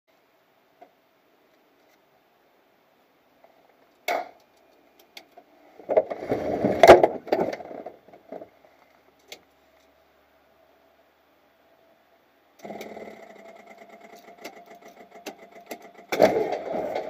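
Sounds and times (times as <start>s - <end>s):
faint steady hum: 0.1s - 17.0s.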